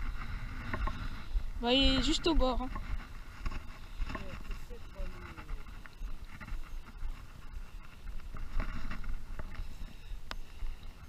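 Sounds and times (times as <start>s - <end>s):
faint crackles: 0.0s - 11.0s
wind rumbling on microphone: 0.0s - 11.0s.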